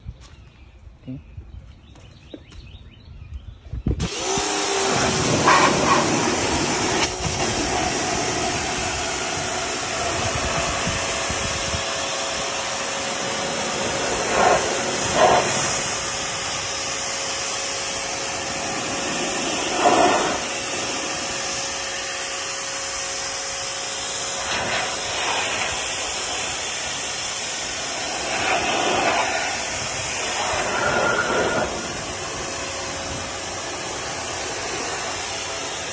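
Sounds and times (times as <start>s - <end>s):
pressure washer motor hum: 4.0s - 35.9s
water jet hissing: 4.1s - 35.9s.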